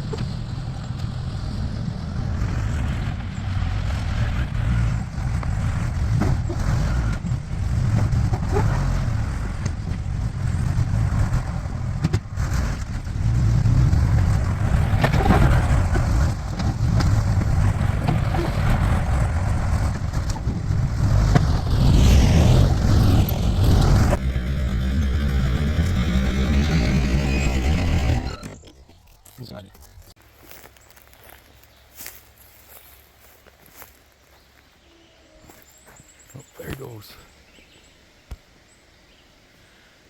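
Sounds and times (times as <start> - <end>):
backhoe engine under load: 0.0 - 34.2.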